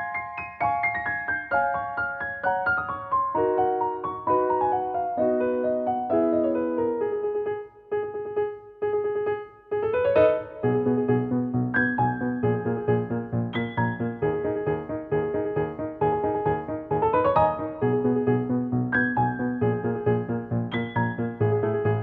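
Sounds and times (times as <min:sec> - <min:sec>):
piano playing light chords: 0:00.0 - 0:22.0.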